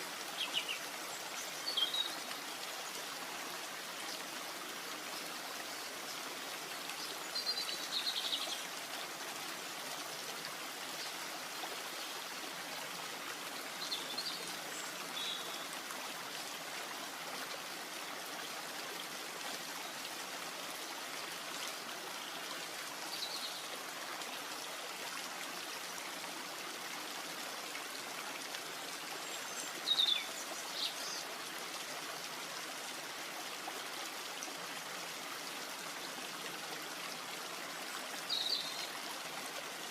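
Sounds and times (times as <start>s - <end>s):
rain in forest: 0.0s - 39.9s.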